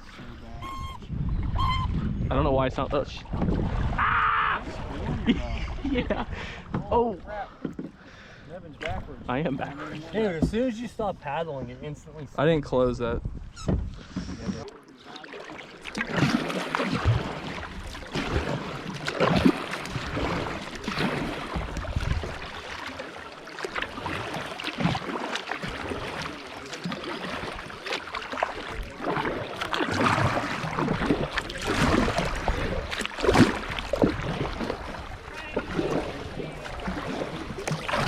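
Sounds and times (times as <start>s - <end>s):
paddle strokes splashing: 3.1s - 10.8s, 13.6s - 38.0s.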